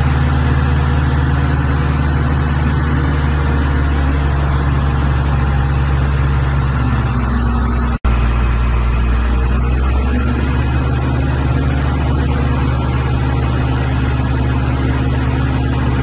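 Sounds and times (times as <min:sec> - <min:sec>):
diesel engine running with deep hum: 0:00.0 - 0:16.0.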